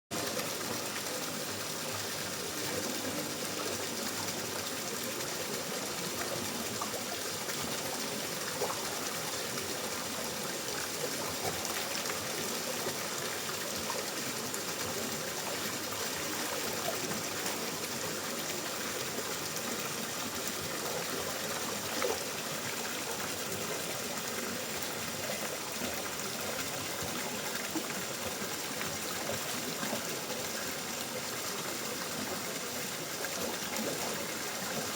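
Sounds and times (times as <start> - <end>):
water flowing: 0.1 - 34.9.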